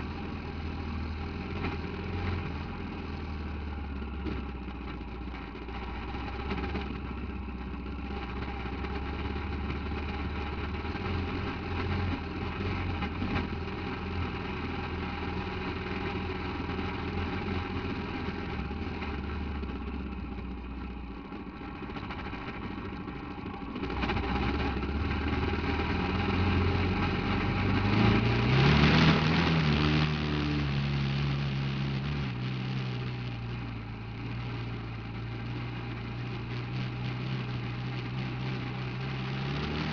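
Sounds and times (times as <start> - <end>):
buggy engine revving: 0.0 - 39.9.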